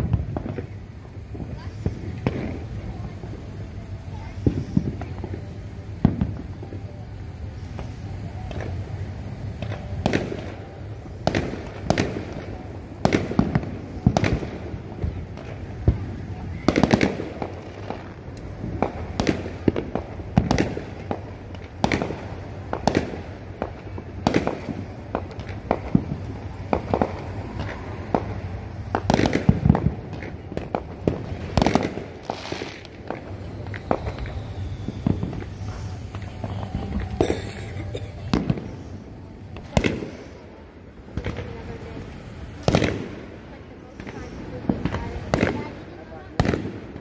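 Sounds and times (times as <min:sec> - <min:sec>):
fireworks bangs: 0:00.0 - 0:47.0.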